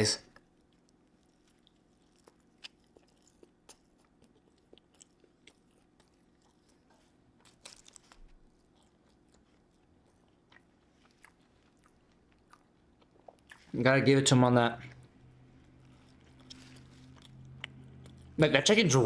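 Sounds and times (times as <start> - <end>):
person chewing crunchy food: 0.4 - 13.9, 14.8 - 18.4.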